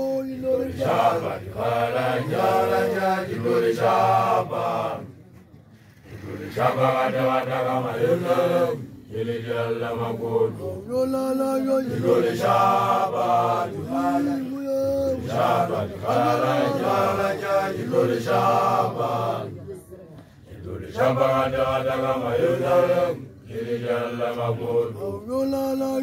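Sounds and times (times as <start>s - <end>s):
men chanting: 0.0s - 5.0s, 6.2s - 19.6s, 20.5s - 26.0s.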